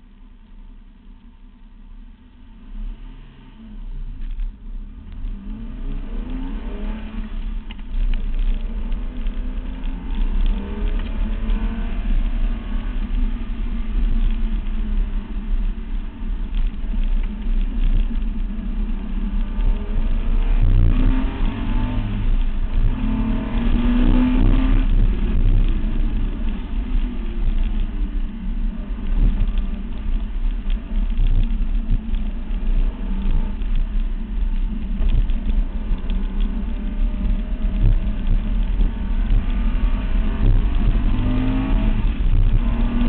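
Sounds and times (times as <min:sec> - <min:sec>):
tyre noise on asphalt: 0:00.0 - 0:43.0
car engine revving: 0:04.8 - 0:43.0.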